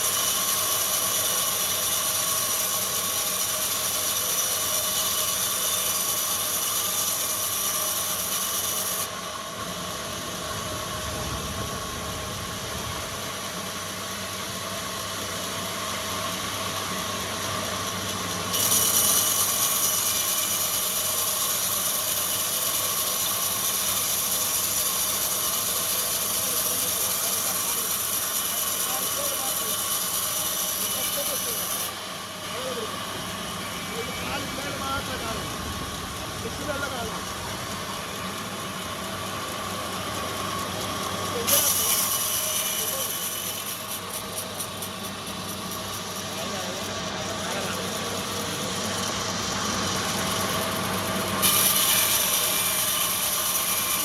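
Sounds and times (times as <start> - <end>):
woodworking machinery with high whine: 0.0 - 54.0.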